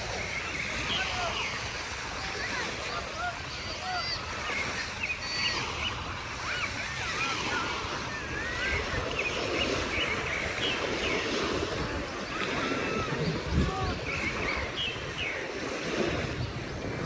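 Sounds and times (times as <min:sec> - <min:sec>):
sea waves washing on beach: 0:00.0 - 0:17.0
wind: 0:00.0 - 0:17.0.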